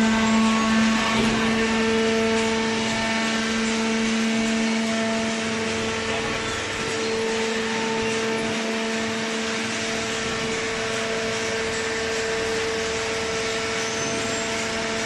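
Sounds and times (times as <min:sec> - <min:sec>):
constant whine: 0:00.0 - 0:15.0
hydraulic machine hum: 0:00.0 - 0:15.0.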